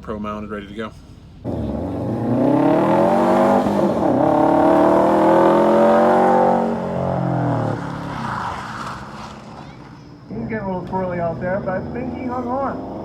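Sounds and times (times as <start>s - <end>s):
car engine accelerating: 1.4s - 10.0s, 10.9s - 13.0s.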